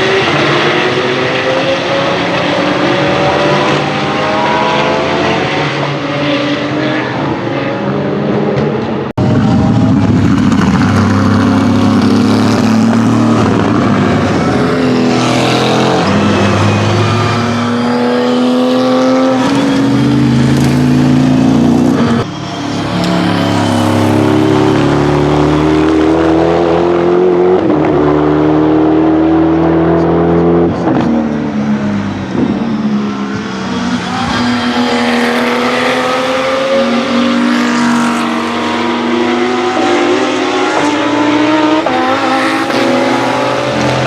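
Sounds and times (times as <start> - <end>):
race car engines at full throttle: 0.0 - 44.0.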